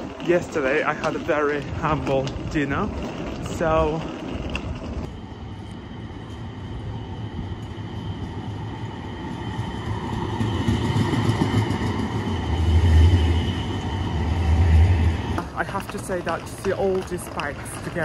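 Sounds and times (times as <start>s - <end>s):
steel wheels rumbling on rails: 0.0s - 18.0s
tram whine: 0.0s - 18.0s.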